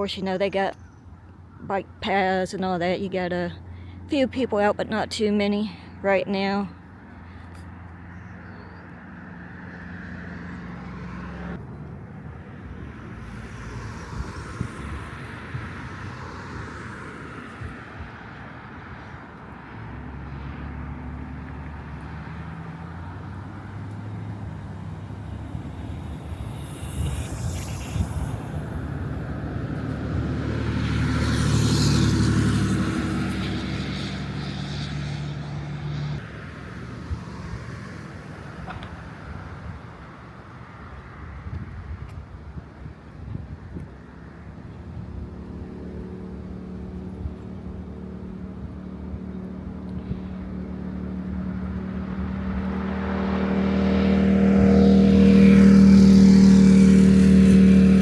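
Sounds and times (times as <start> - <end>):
vehicles driving past: 0.0 - 58.0
vehicle engine: 1.8 - 58.0.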